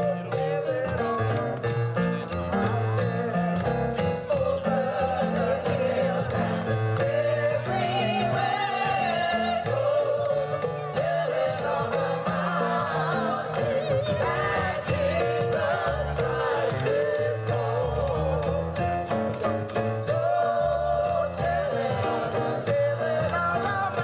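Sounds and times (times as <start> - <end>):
jingle bells shaken: 0.0 - 24.0
voices singing: 0.0 - 24.0.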